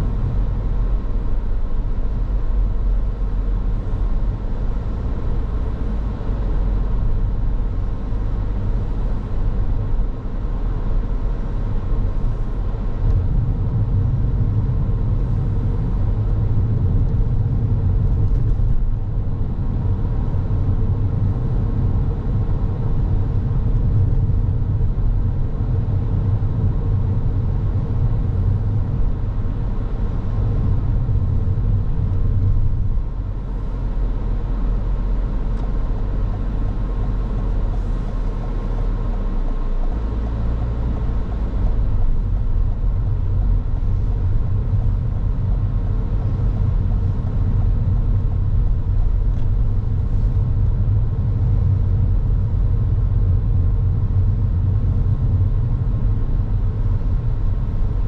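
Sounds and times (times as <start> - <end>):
car tyres and engine rumbling: 0.0 - 58.0.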